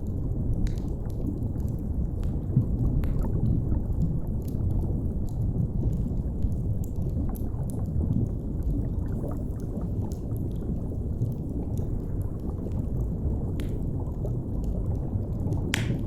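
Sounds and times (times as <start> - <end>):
faint fire crackles: 0.0 - 16.0
low underwater rumble: 0.0 - 16.0.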